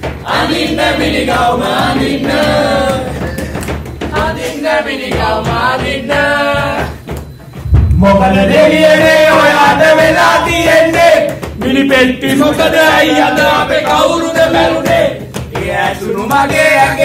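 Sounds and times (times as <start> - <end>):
group singing in unison: 0.0 - 7.2, 8.0 - 17.0
men singing into a microphone: 0.2 - 7.2, 7.9 - 17.0.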